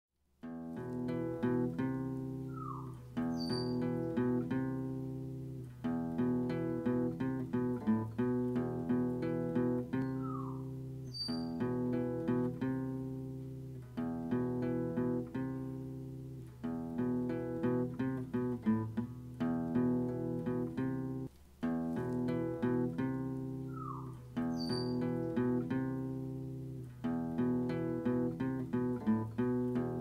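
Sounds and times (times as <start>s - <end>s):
acoustic guitar plucking: 0.4s - 30.0s.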